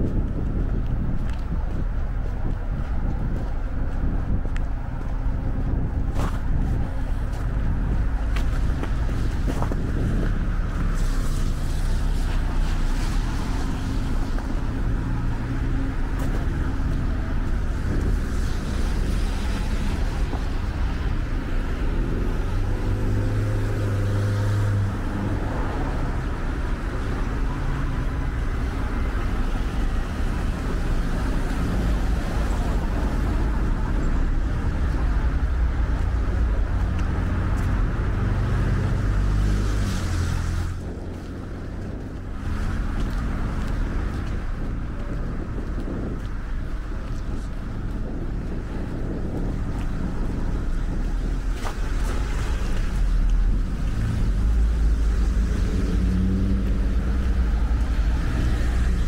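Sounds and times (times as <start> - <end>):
passing vehicle engines rumbling: 0.0 - 59.0.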